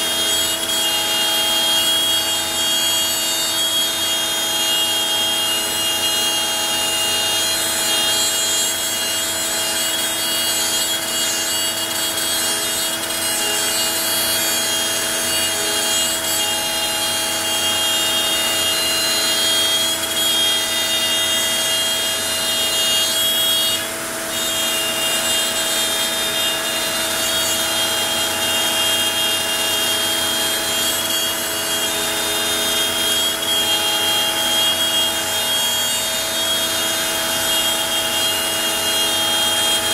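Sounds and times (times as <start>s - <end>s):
cnc router cutting: 0.0s - 39.9s.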